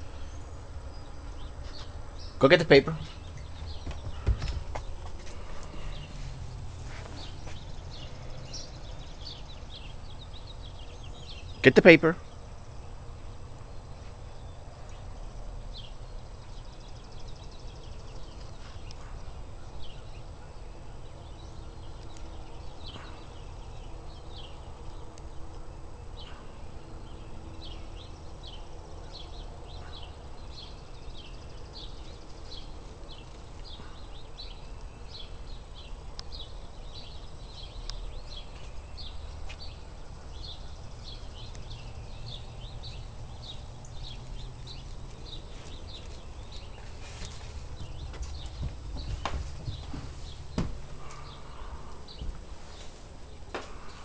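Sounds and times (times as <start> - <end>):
birds chirping: 0.0 - 13.0, 15.7 - 52.3.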